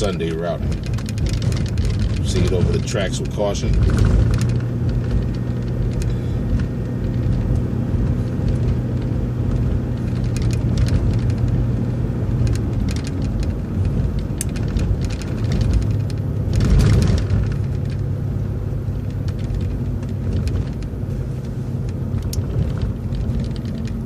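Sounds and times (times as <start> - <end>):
bus engine and road rumble: 0.0 - 24.0
light rattles and clicks: 0.0 - 24.0.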